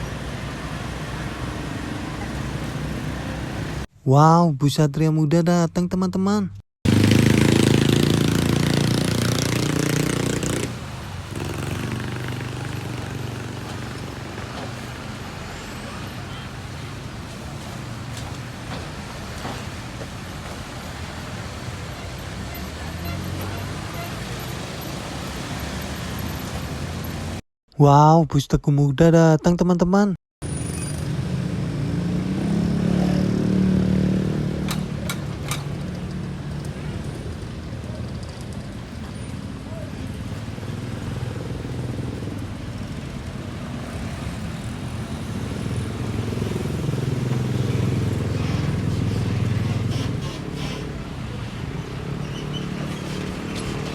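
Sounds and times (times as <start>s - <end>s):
bus engine rumbling: 0.0s - 3.9s, 6.9s - 27.4s, 30.4s - 53.9s
road traffic rumble: 0.0s - 3.9s, 6.8s - 27.4s, 30.4s - 53.9s.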